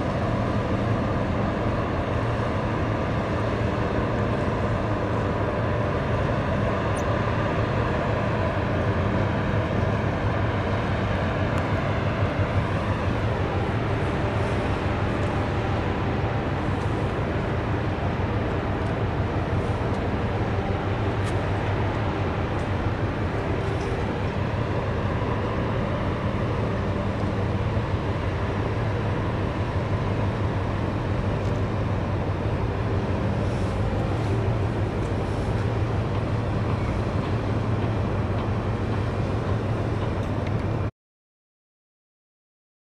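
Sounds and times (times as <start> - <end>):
ship engines droning: 0.0 - 40.9.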